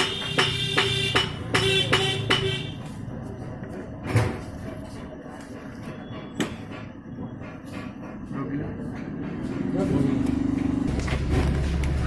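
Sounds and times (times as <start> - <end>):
workshop background noise: 0.0 - 12.0.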